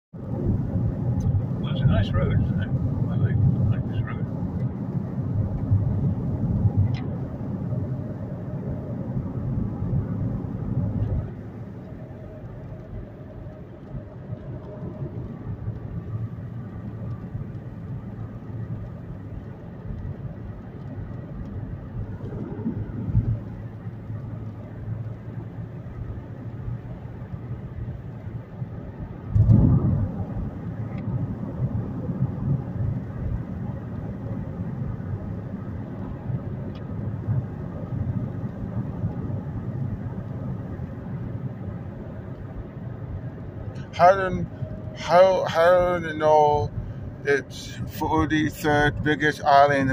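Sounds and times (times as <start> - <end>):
car tyre and engine rumble: 0.1 - 49.9
passing traffic: 0.1 - 49.9.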